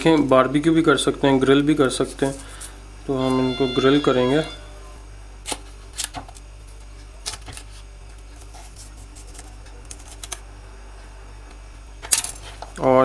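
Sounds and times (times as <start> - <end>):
low hum: 2.4 - 13.0.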